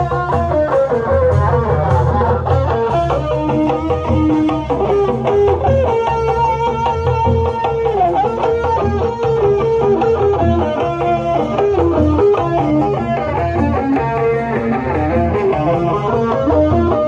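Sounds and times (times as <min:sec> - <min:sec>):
plucked string melody: 0:00.0 - 0:17.0
repeating drum beat: 0:00.0 - 0:17.0.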